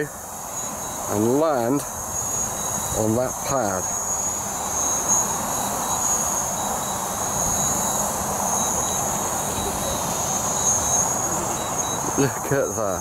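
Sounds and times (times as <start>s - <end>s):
wind rumbling on microphone: 0.0s - 12.5s
drone propellers whining: 0.0s - 13.0s.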